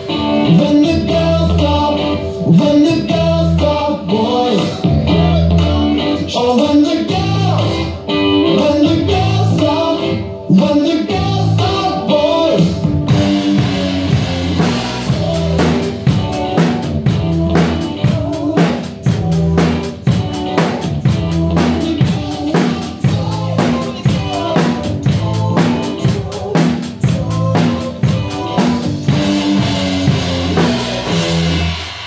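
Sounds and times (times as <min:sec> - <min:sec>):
drum kit groove: 0:00.0 - 0:07.9, 0:10.6 - 0:32.0
accompanying music: 0:00.0 - 0:32.0.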